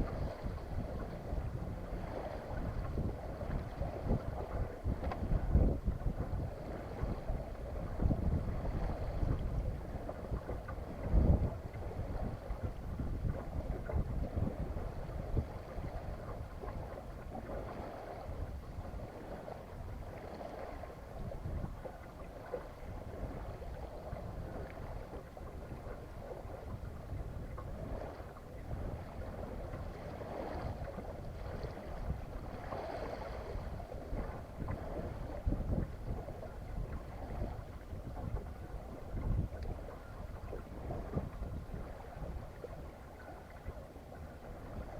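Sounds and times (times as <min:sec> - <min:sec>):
faint water wash: 0:00.0 - 0:44.9
wind buffeting microphone: 0:00.0 - 0:44.9.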